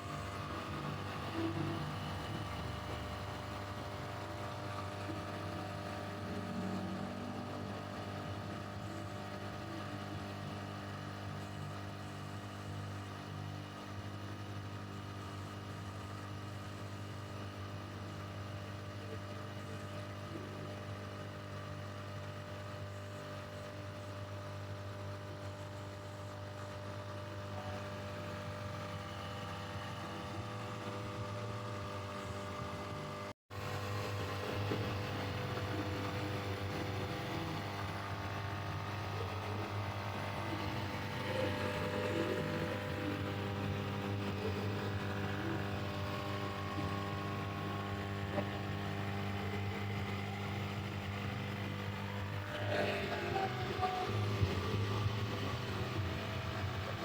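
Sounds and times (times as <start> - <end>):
steady mechanical drone: 0.0 - 57.0.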